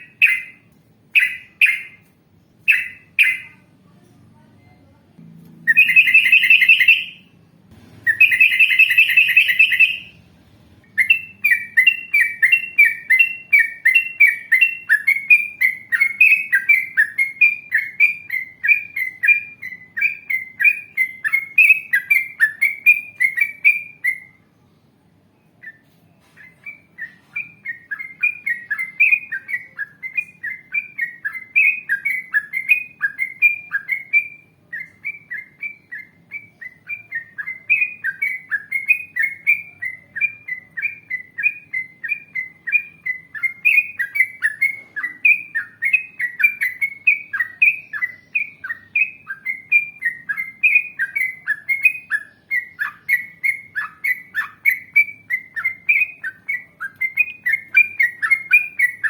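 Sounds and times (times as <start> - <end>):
bird singing: 0.0 - 3.7, 5.2 - 59.0.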